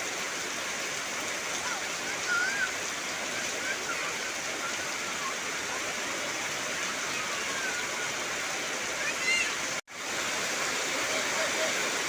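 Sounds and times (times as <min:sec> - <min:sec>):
heavy rain on foliage: 0:00.0 - 0:12.0.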